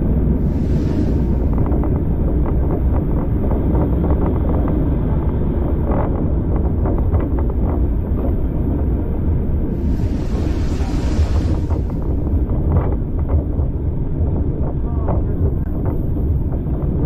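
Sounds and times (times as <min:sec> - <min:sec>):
railway carriage rumbling: 0:00.0 - 0:17.0
wind buffeting microphone: 0:00.0 - 0:17.0.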